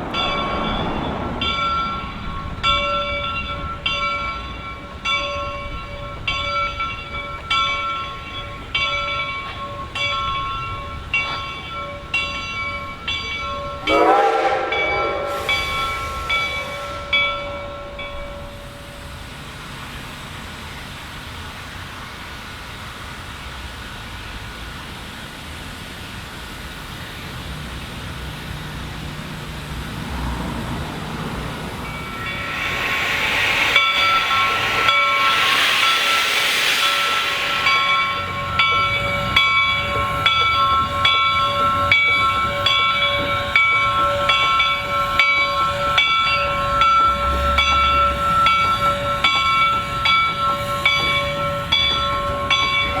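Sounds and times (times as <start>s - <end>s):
locomotive bell ringing: 0.0s - 19.5s, 29.8s - 53.0s
steam hiss: 0.0s - 53.0s.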